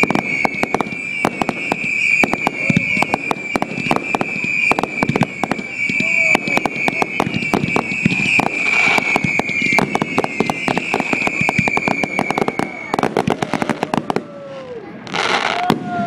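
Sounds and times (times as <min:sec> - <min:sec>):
short falling whistles: 0:00.0 - 0:13.1
firework whistle: 0:00.0 - 0:16.0
fireworks bangs and crackles: 0:00.0 - 0:16.0.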